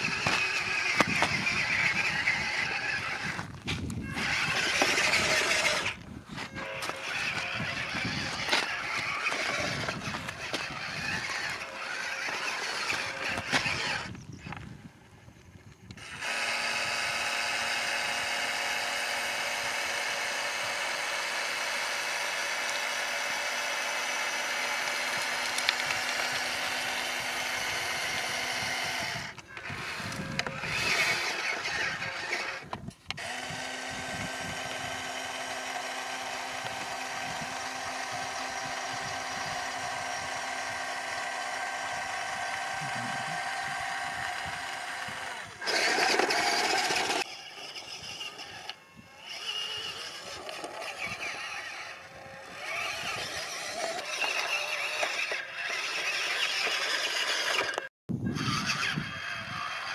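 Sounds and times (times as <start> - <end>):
electric motor whining: 0.0 - 59.9
uneven mechanical whirring: 0.0 - 59.9.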